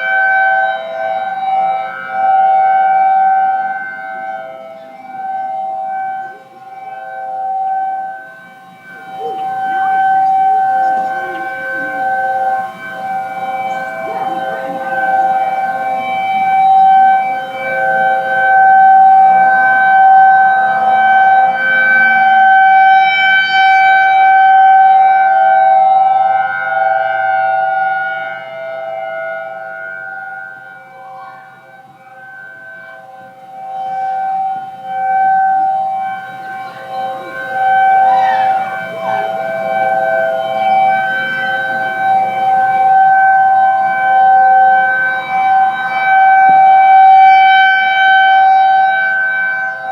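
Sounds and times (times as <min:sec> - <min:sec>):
distant outdoor warning sirens: 0:00.0 - 0:49.9.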